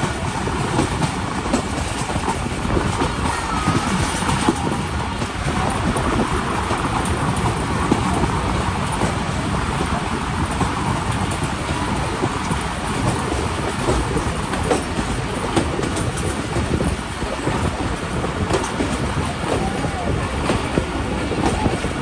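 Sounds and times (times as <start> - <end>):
sharp clicks of wheels on rails: 0.0 - 22.0
train wheels rumbling on track: 0.0 - 22.0.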